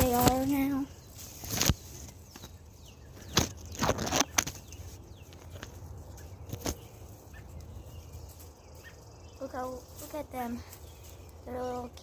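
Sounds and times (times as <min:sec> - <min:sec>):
high bird chirps: 0:00.0 - 0:12.0
rustling: 0:00.0 - 0:12.0.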